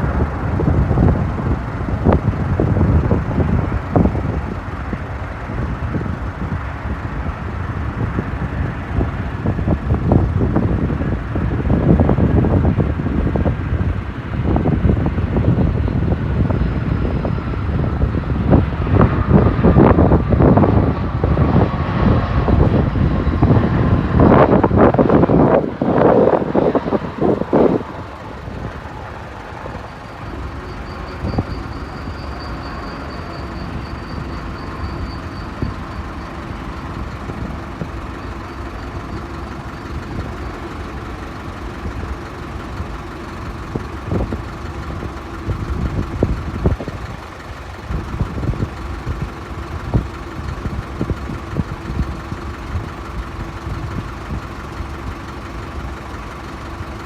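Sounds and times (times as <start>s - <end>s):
jet engines running: 0.0s - 57.0s
wind buffeting microphone: 0.0s - 57.0s.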